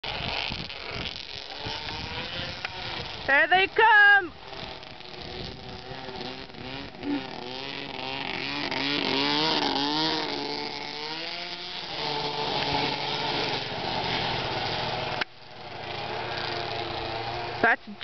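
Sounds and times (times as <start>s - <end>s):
snowmobile engine: 0.0s - 18.0s.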